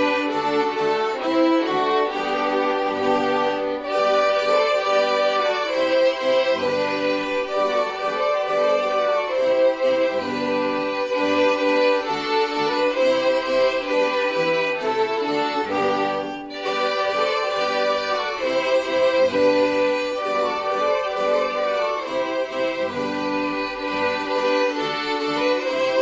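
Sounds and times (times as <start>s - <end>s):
piano accompaniment: 0.0s - 26.0s
violins playing slow melody: 0.0s - 26.0s.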